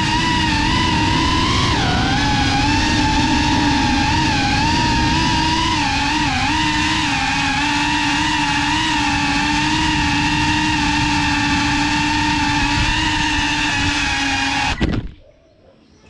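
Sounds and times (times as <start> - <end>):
drone motors whining: 0.0 - 15.2.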